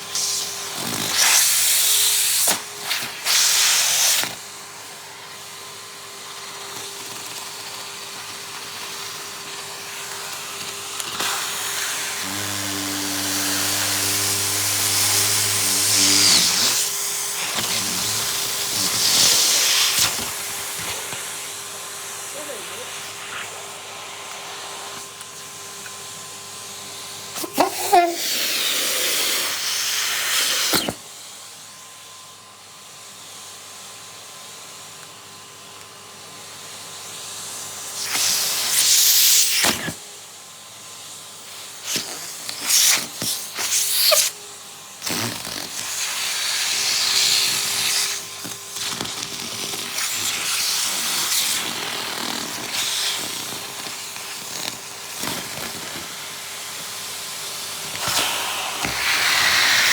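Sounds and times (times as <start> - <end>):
vacuum cleaner motor hum: 0.0 - 59.9.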